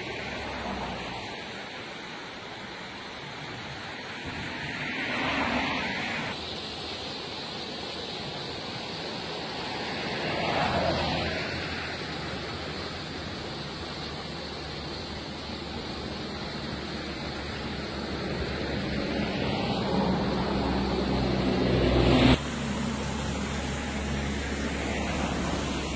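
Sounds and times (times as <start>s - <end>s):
river rushing around rocks: 0.0s - 25.9s.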